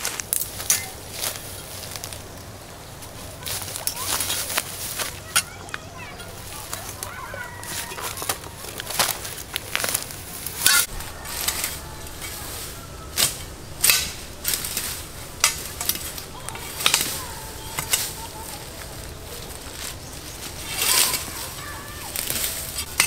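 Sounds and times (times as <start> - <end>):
low rustling: 0.0 - 23.0
sharp snaps and crackles: 0.0 - 23.0.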